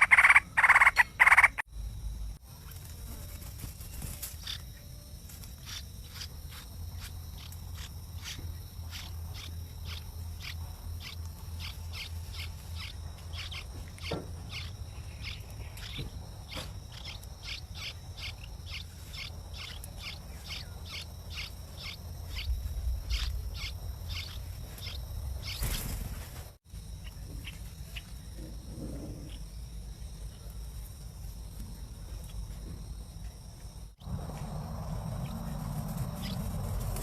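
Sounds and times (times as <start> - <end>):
small bird chirping: 0.0 - 1.7, 2.6 - 26.3, 26.9 - 30.8, 33.2 - 37.0
steady low hum: 0.0 - 37.0.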